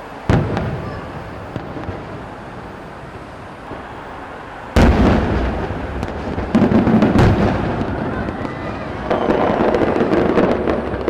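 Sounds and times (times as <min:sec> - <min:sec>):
firework shell booming: 0:00.3 - 0:04.0, 0:04.7 - 0:11.0.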